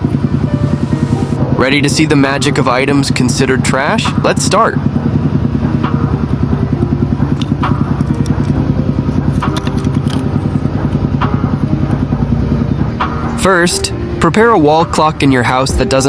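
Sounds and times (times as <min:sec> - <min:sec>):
engine running with pulsing beat: 0:00.0 - 0:16.0.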